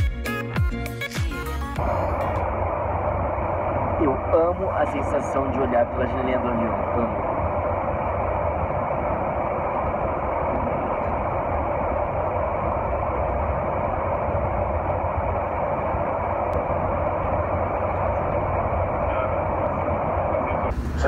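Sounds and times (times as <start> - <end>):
air rush and engine noise: 0.0 - 21.0
low rumble: 0.9 - 21.0.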